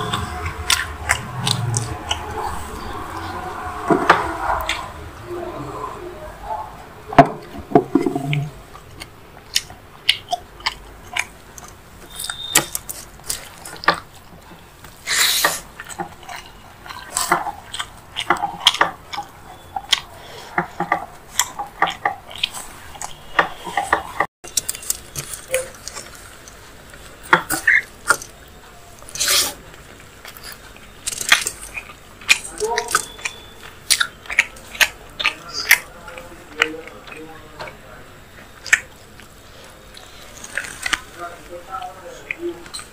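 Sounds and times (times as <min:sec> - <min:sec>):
wet chewing and mouth smacks: 0:07.4 - 0:42.9.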